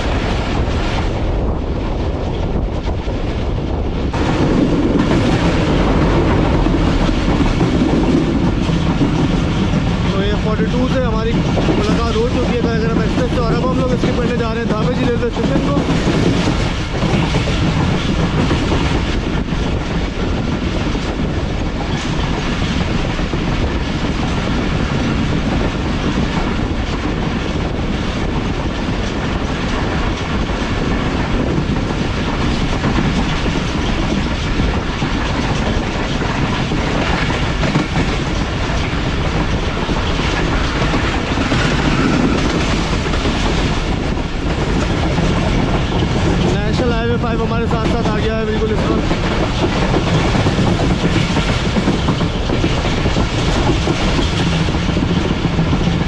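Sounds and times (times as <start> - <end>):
train wheels clickety-clack: 0.0 - 56.0.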